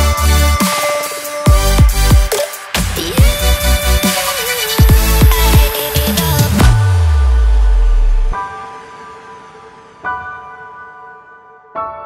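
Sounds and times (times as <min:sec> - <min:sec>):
electronic music with heavy bass: 0:00.0 - 0:09.8.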